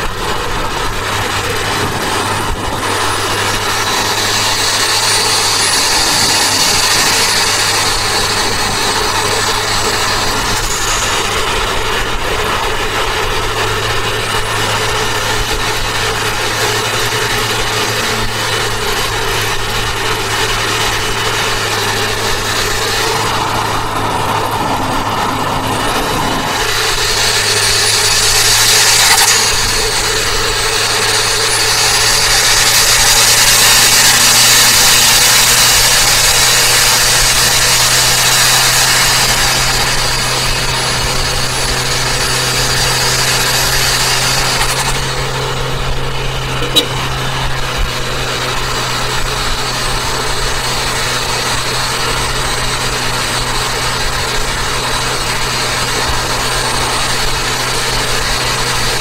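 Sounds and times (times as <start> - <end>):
car engine hum: 0.0 - 59.0
road noise: 0.0 - 59.0
turbo whine: 0.0 - 59.0.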